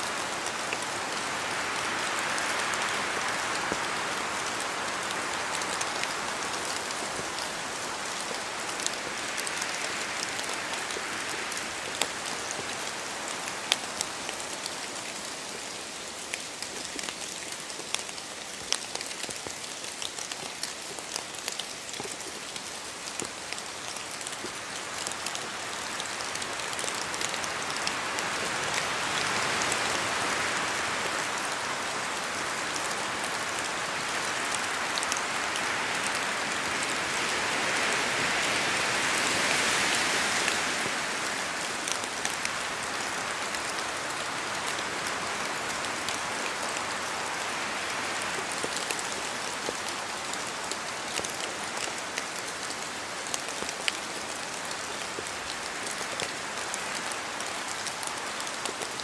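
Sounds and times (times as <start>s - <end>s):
rain hissing through trees: 0.0s - 59.0s.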